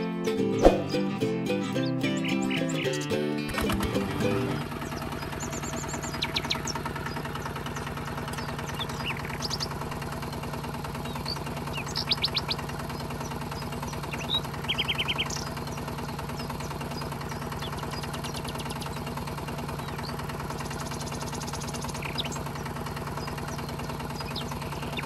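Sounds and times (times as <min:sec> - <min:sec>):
bird chirping: 0:01.6 - 0:03.2, 0:04.6 - 0:25.0.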